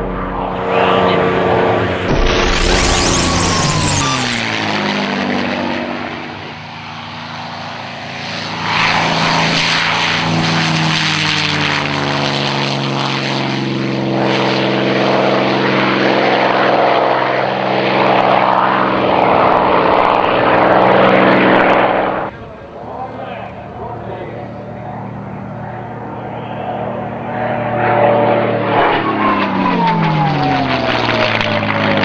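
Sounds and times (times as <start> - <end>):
propeller aircraft engine roaring: 0.0 - 32.0.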